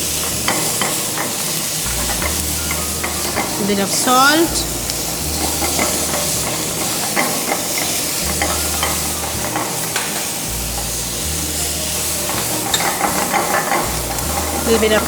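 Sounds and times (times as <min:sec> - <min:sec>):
vegetables sizzling in hot oil: 0:00.0 - 0:15.0
utensil clicking against pan: 0:00.1 - 0:15.0.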